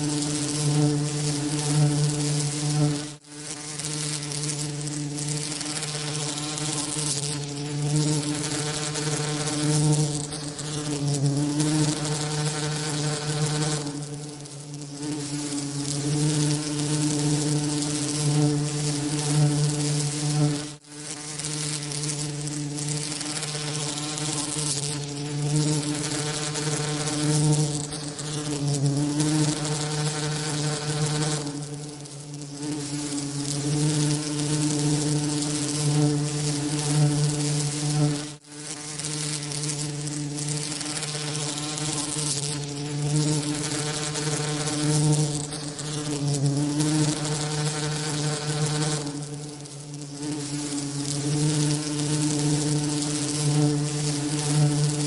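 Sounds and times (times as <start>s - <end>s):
bee wingbeats buzzing: 0.0s - 55.0s.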